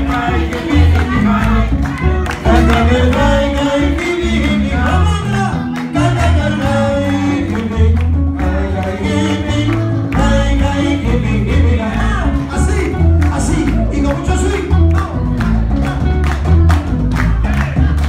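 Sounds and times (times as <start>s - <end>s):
man singing into a microphone: 0.0s - 16.1s
electric bass line: 0.0s - 18.0s
percussion: 0.0s - 18.0s.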